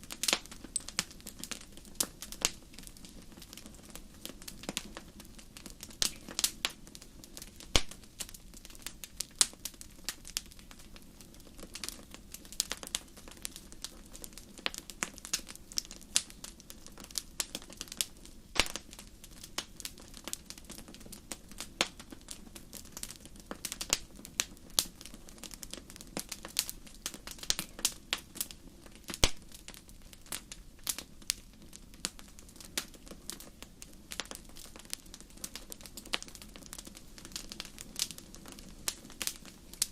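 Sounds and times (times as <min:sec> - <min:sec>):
wood fire crackling: 0:00.0 - 0:39.9
sharp fire pops: 0:00.1 - 0:39.9.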